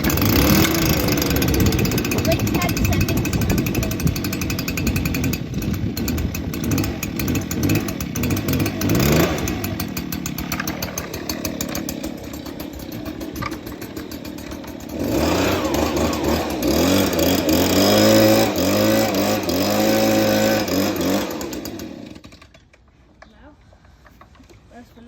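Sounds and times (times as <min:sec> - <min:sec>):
leaf blower engine revving: 0:00.0 - 0:22.6.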